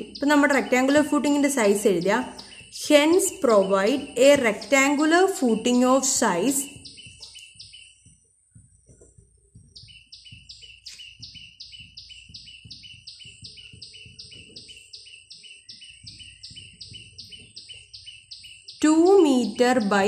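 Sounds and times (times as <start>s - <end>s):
bird chirping two-part calls: 0.0s - 8.1s, 9.6s - 20.0s.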